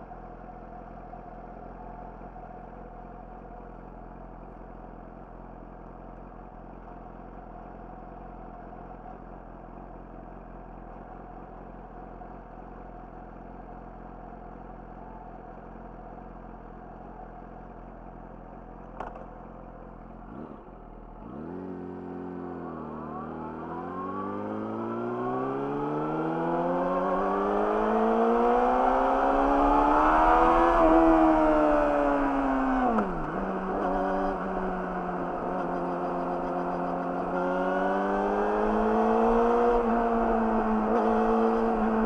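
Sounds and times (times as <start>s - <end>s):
motorcycle engine idling and accelerating: 0.0s - 42.0s.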